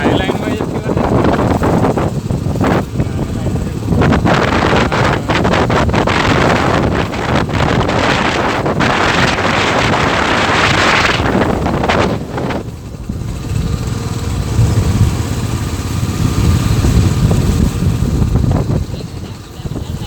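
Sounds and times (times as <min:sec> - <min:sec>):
motorcycle engine rumble: 0:00.0 - 0:20.0
wind rushing over microphone: 0:00.0 - 0:20.0.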